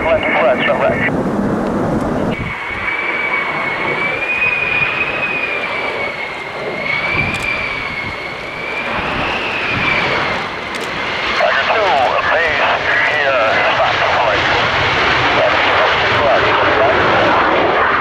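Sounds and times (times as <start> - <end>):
jet engine whine: 0.0 - 18.0.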